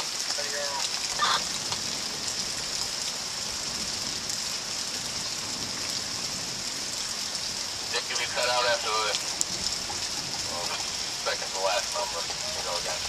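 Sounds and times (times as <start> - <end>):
rain on wet street: 0.0 - 13.0.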